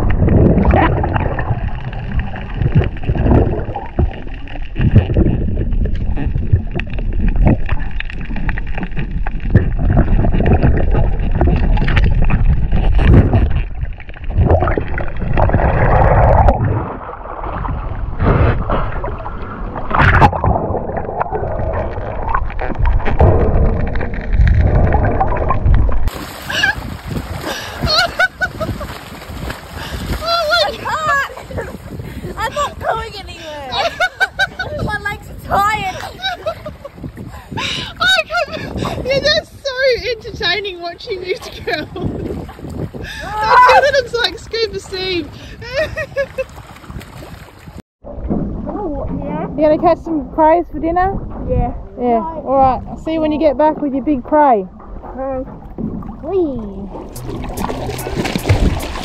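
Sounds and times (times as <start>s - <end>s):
water rushing and gurgling: 0.0s - 59.0s.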